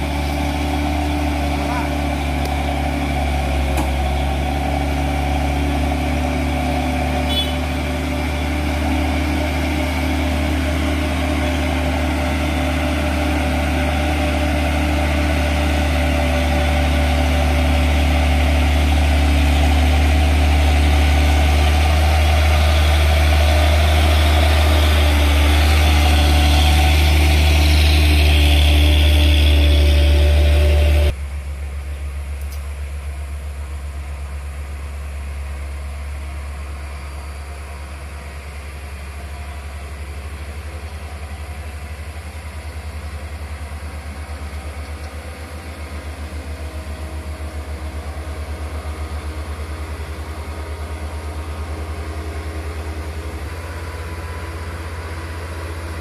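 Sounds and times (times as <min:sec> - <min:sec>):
truck diesel engine labouring: 0:00.0 - 0:56.0.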